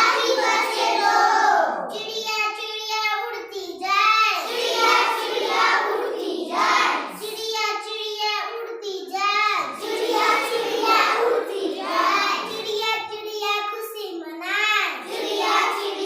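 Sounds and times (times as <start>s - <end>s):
child singing nursery rhyme: 0.0s - 16.0s.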